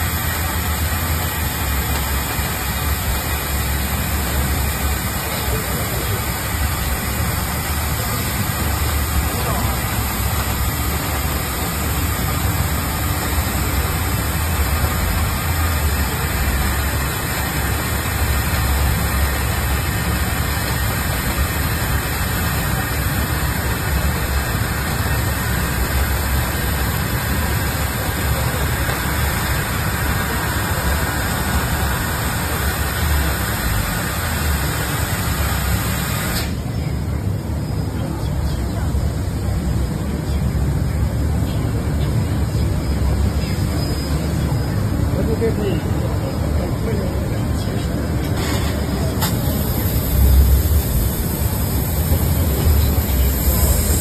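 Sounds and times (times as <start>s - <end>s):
laser cutter hissing: 0.0s - 36.7s, 40.4s - 54.0s
low machine rumble: 0.0s - 54.0s.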